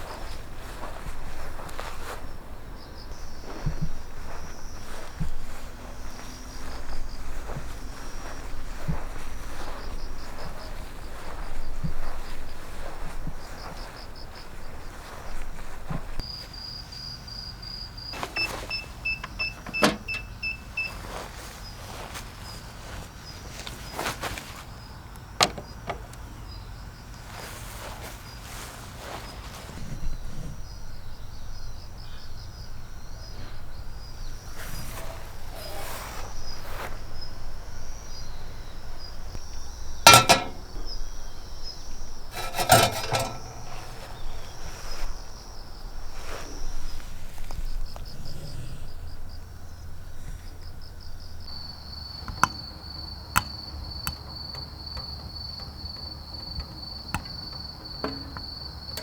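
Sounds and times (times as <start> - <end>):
insects chirping trill: 0.0 - 59.0.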